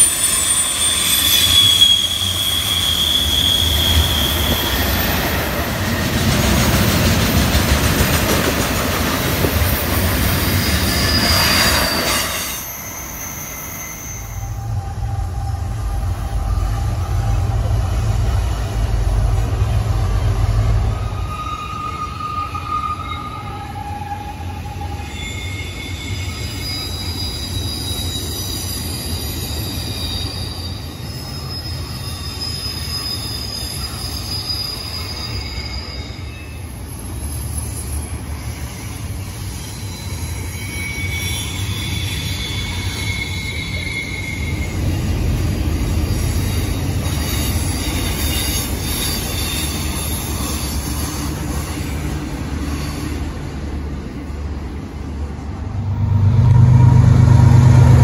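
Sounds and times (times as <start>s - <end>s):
freight train rumbling past: 0.0s - 58.0s
train wheels squealing: 0.0s - 58.0s.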